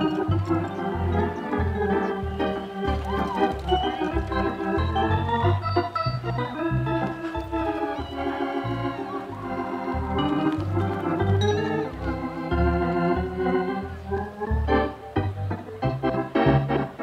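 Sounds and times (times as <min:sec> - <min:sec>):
electric organ playing: 0:00.0 - 0:17.0.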